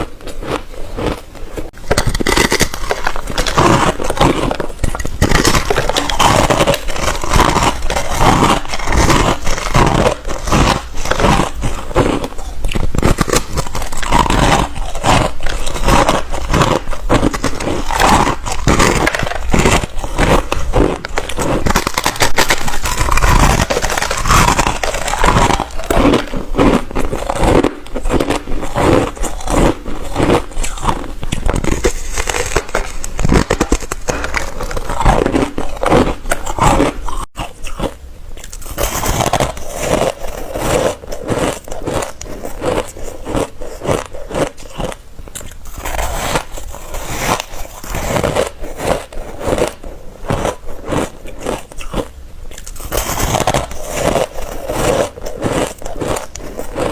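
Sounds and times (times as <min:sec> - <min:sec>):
ice crunching bites: 0:00.0 - 0:56.9.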